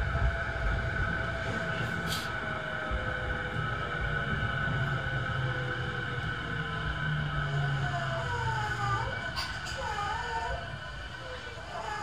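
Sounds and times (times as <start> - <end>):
traction equipment whine: 0.0 - 12.0
wheels rumbling on rail: 0.0 - 12.0.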